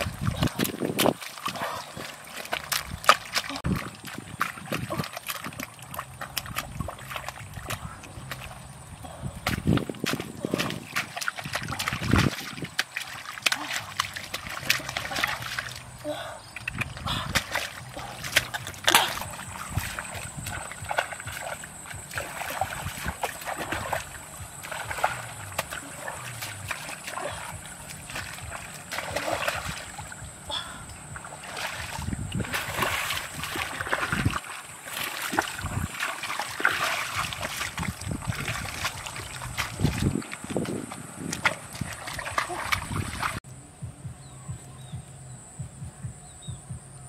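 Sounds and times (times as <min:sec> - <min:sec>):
splashing in muddy water: 0:00.0 - 0:43.4.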